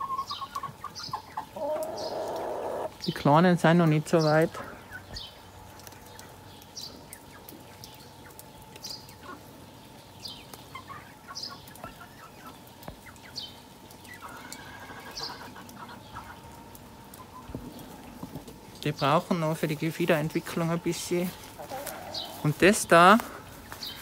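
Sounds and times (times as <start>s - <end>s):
chicks peeping: 0.0s - 24.0s.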